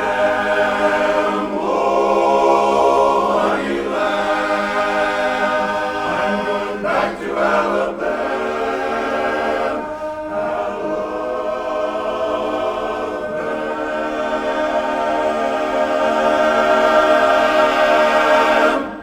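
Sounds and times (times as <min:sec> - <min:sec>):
men's chorus singing in harmony: 0:00.0 - 0:19.0.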